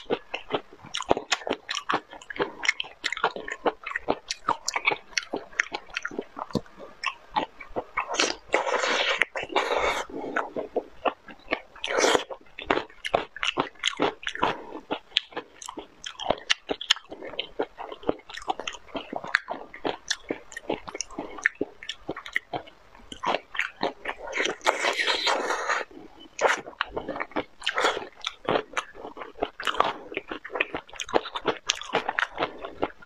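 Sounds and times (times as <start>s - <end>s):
wet chewing and crunching: 0.0s - 33.0s.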